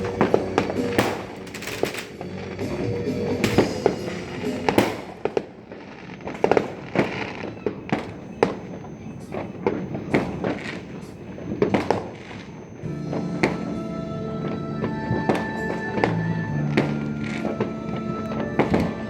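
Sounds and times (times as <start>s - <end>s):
fireworks bangs and cracks: 0.0s - 19.0s.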